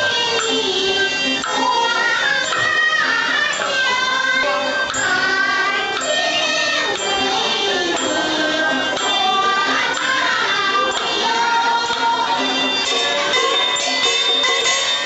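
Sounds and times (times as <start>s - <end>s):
cymbals: 0.0s - 15.0s.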